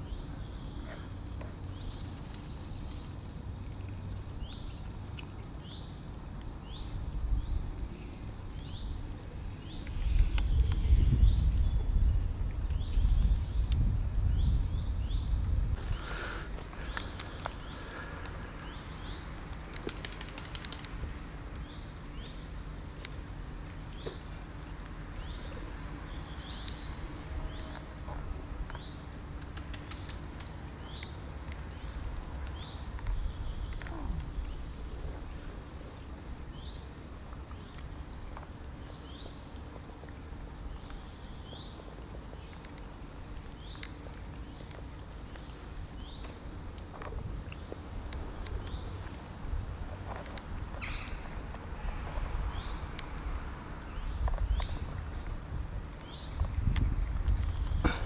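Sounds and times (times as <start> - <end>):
low outdoor rumble: 0.0 - 58.0
small songbird chirping: 0.0 - 58.0.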